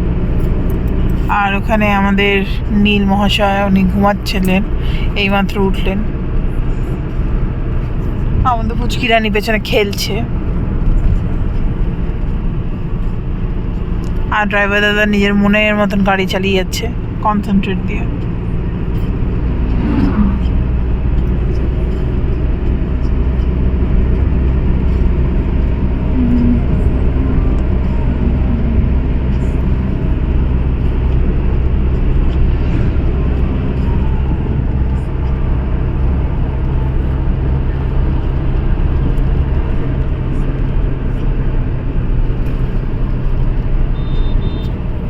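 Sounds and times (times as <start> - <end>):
car cabin road and engine rumble: 0.0 - 45.0.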